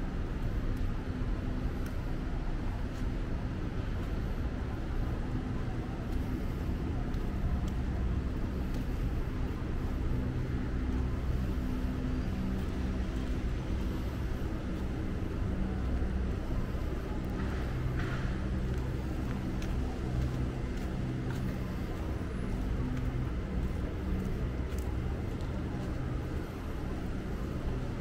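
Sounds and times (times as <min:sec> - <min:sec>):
rumble of cars on road: 0:00.0 - 0:28.0.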